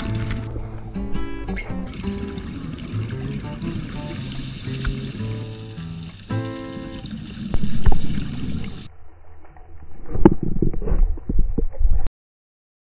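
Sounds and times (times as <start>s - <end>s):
underwater bubbles gurgling: 0.0s - 12.1s.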